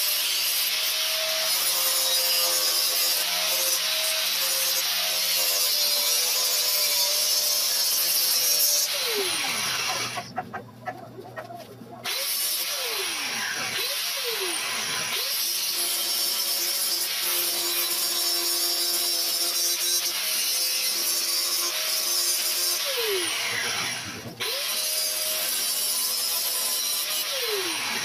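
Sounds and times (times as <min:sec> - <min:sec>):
angle grinder grinding metal: 0:00.0 - 0:10.7, 0:12.0 - 0:28.0.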